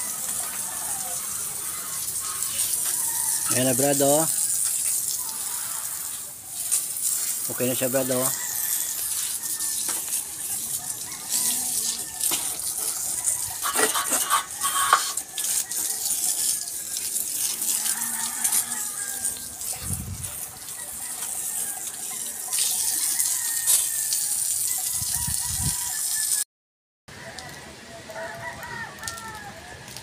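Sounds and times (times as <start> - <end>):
water hissing and splashing: 0.0 - 26.3.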